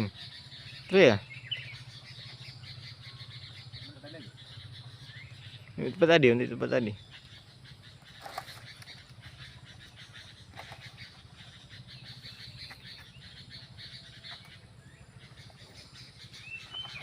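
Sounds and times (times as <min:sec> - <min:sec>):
frogs chirring: 0:00.0 - 0:17.0.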